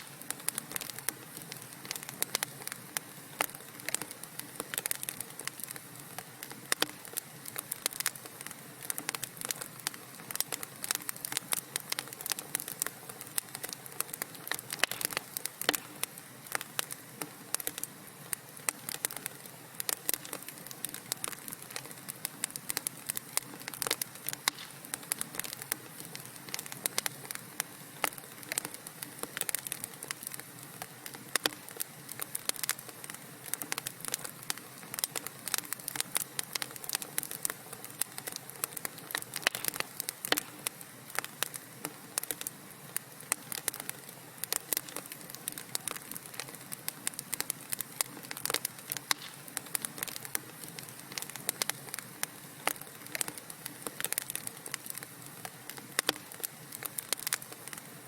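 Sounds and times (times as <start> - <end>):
soft steady hiss: 0.0 - 58.0
wood fire crackling and popping: 0.0 - 58.0.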